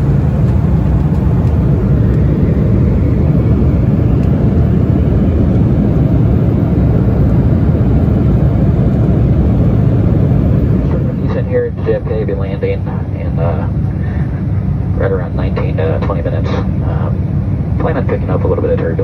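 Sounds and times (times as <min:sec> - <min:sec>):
jet cabin engine and airflow noise: 0:00.0 - 0:19.0.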